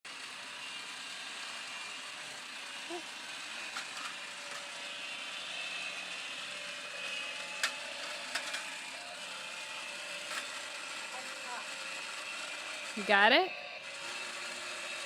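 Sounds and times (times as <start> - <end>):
toy chainsaw motor whirring: 0.1 - 15.0.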